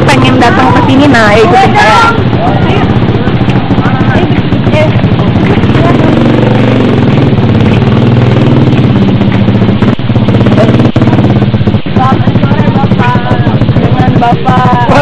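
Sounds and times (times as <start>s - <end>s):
small engine running: 0.0s - 15.0s
voices: 0.0s - 15.0s.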